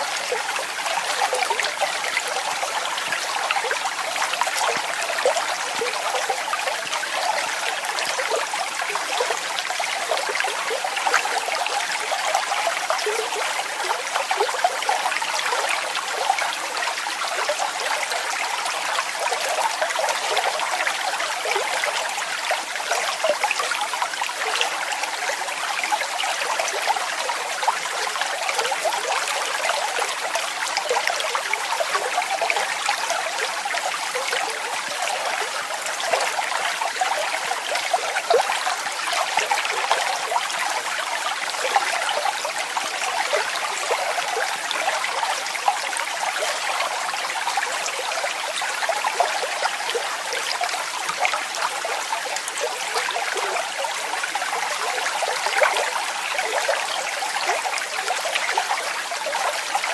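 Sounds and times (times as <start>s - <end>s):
water splashing over small waterfall: 0.0s - 59.9s.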